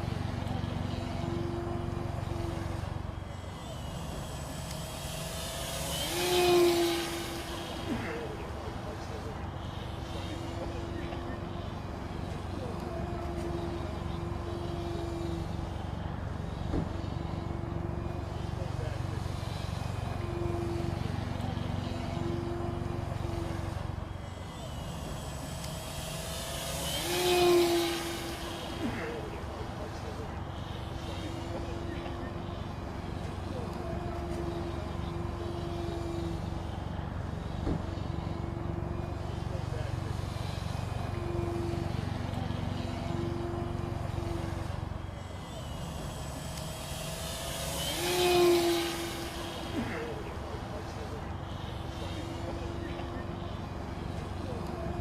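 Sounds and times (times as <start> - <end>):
model plane engine droning: 0.0 - 55.0.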